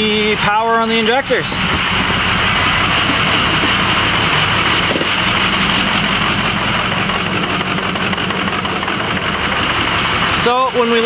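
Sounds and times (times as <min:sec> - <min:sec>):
diesel engine idling rough: 0:00.0 - 0:11.0.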